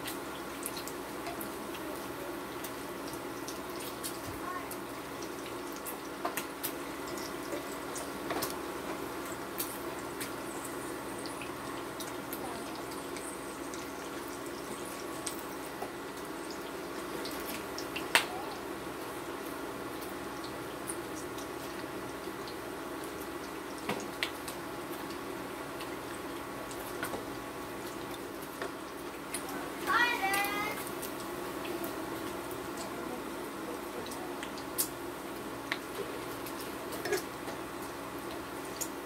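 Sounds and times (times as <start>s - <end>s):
bacon sizzling in a frying pan: 0.0s - 39.0s.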